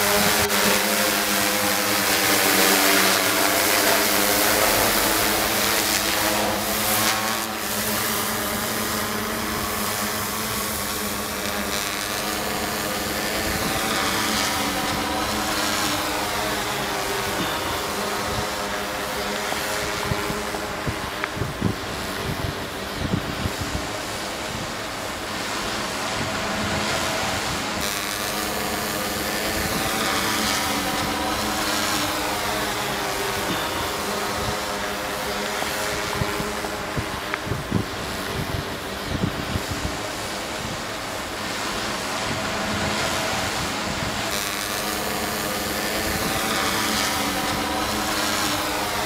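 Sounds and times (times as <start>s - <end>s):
drone propellers buzzing: 0.0s - 49.0s.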